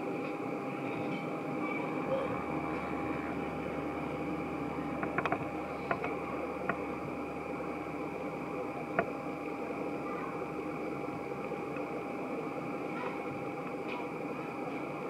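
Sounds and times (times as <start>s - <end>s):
jet engine whine and rumble: 0.0s - 15.0s.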